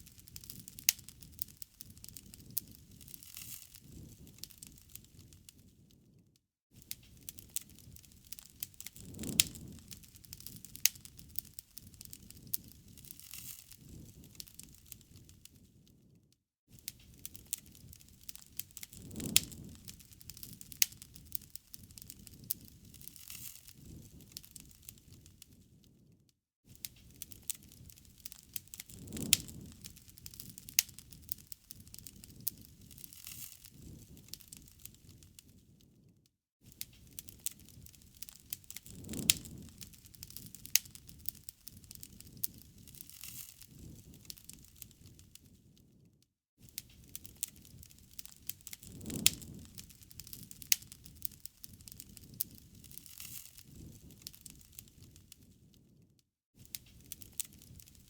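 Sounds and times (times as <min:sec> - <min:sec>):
wood fire crackling and popping: 0:00.0 - 0:06.2, 0:06.8 - 0:56.0, 0:56.6 - 0:58.0.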